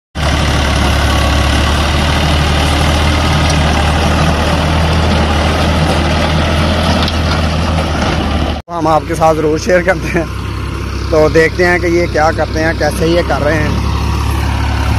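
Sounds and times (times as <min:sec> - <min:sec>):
heavy engine running: 0:00.2 - 0:14.9.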